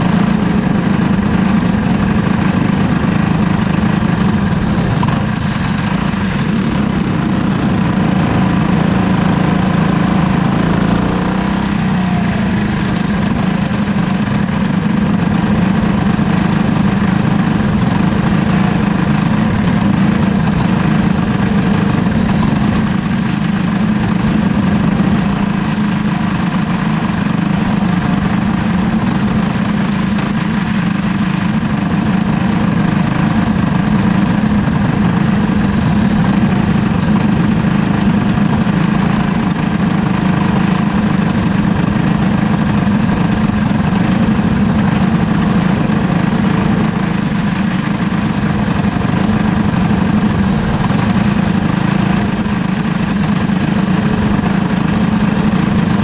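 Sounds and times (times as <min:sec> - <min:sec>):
race car engine idling: 0:00.0 - 0:56.0.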